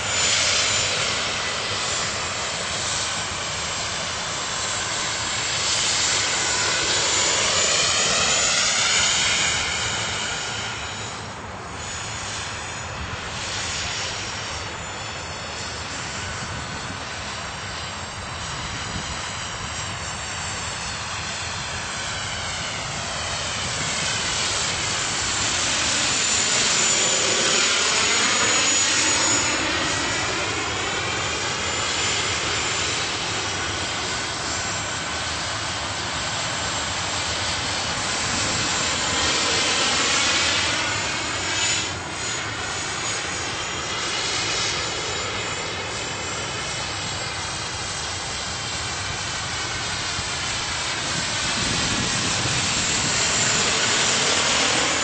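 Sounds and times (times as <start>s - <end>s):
helicopter turbine whine and rotor: 0.0s - 55.0s.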